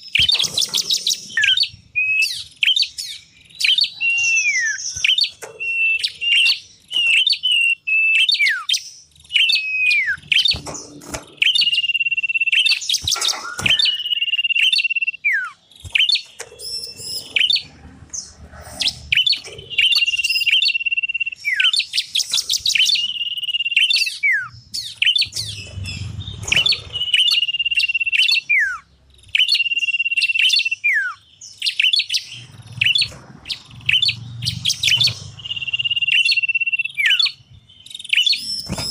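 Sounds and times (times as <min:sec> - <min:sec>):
bird chattering trills: 0:00.0 - 0:38.9.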